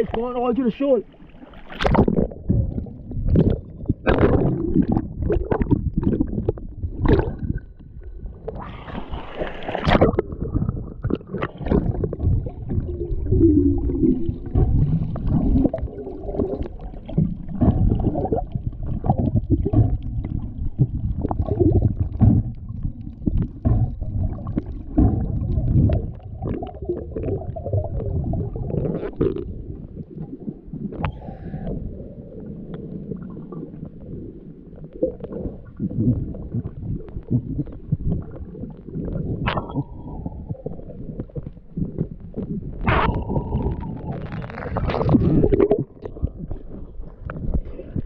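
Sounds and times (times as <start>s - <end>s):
underwater rumble and bubbles: 0.0s - 48.0s
water splashing and sloshing: 0.0s - 48.0s.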